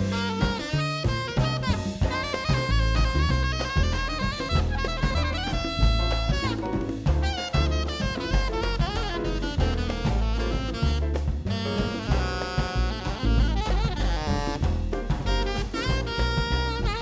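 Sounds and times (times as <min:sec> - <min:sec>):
bass: 0:00.0 - 0:17.0
drum kit: 0:00.0 - 0:17.0
saxophone melody: 0:00.0 - 0:17.0.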